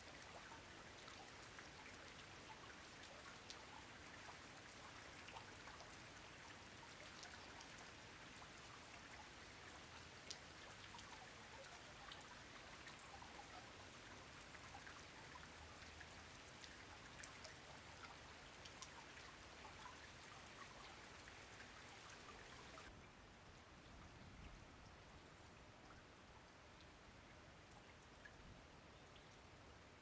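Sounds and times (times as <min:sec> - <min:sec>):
steady faint rainfall: 0:00.0 - 0:30.0.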